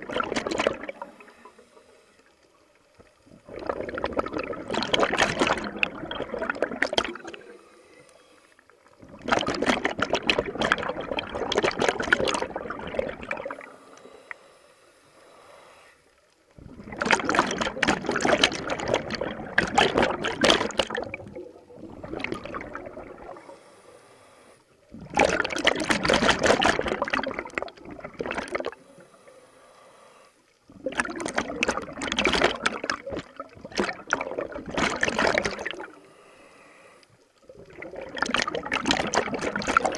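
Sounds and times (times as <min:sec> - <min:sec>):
underwater bubbles gushing: 0:00.0 - 0:08.0, 0:08.8 - 0:14.2, 0:16.5 - 0:23.6, 0:24.7 - 0:29.2, 0:30.6 - 0:36.1, 0:37.3 - 0:39.9.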